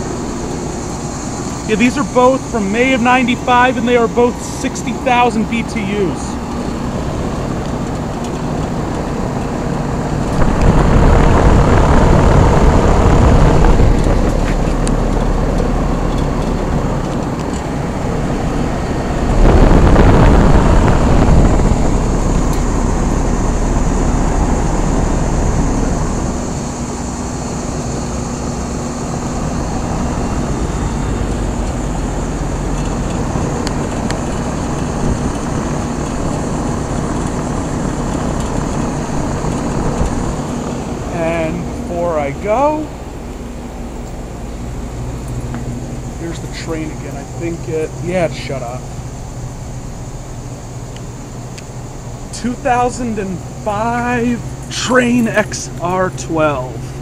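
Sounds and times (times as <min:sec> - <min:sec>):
louder rushing rumble: 0:00.0 - 0:48.9
compressor hum: 0:00.0 - 0:57.0
condenser fans rushing: 0:00.0 - 0:57.0.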